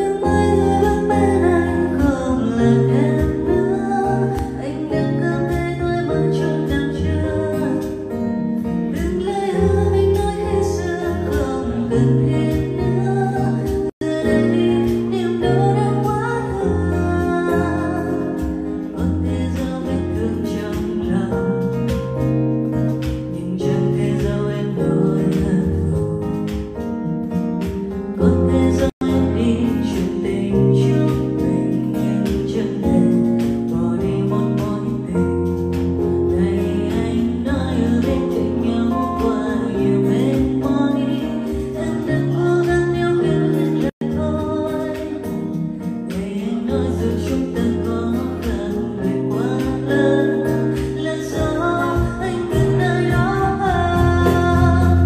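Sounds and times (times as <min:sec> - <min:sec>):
guitar-like accompaniment: 0:00.0 - 0:55.0
woman singing into microphone: 0:00.0 - 0:55.0.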